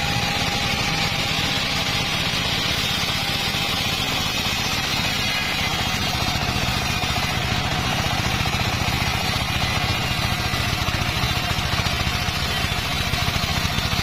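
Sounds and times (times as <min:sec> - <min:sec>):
saw engine running: 0:00.0 - 0:14.0.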